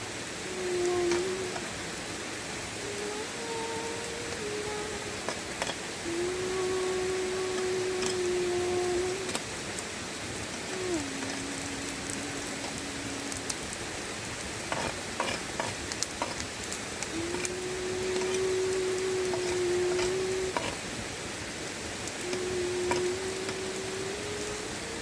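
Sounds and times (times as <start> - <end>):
food sizzling on hot stone: 0.0 - 25.0.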